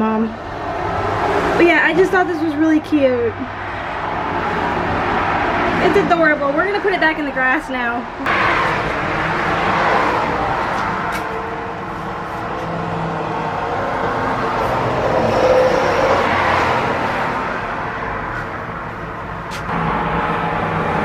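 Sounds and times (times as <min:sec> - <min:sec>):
cars passing by: 0:00.0 - 0:21.0.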